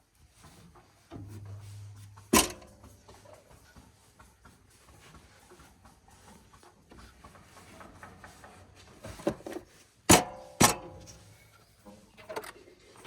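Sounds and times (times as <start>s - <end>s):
faint scattered clatter: 0.2s - 13.0s.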